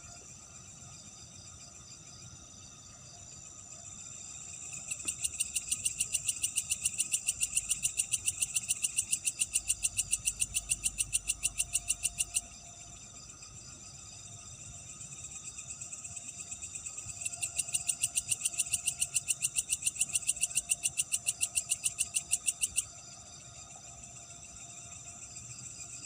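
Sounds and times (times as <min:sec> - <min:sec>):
high-pitched insect chorus: 0:00.0 - 0:26.0
rapid pulsed insect call: 0:00.0 - 0:26.0.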